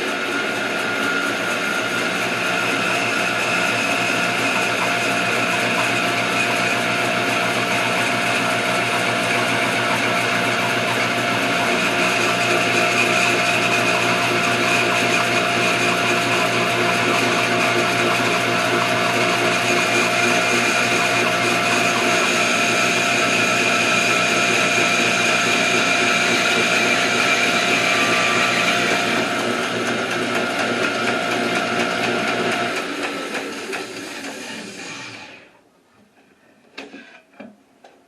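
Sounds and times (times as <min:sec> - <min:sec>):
bandsaw running: 0:00.0 - 0:35.6.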